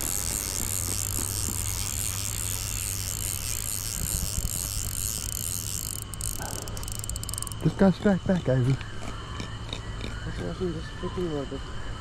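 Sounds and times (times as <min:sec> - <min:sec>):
low steady hum: 0:00.0 - 0:12.0
night insects chirring: 0:00.0 - 0:12.0.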